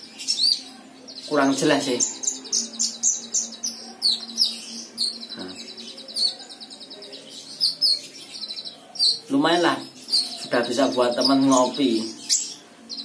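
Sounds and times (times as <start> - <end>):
bird singing high trills: 0.0 - 13.0.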